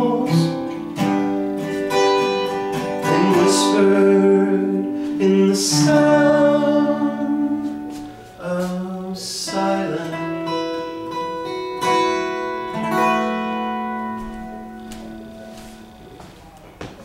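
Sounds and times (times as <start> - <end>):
strummed guitar chords: 0.0 - 16.4.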